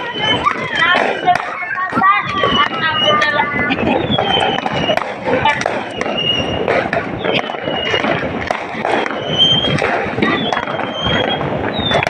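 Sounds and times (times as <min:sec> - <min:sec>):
firecrackers crackling: 0:00.0 - 0:12.0
high whistling fireworks: 0:00.0 - 0:12.0
people's voices: 0:00.0 - 0:12.0.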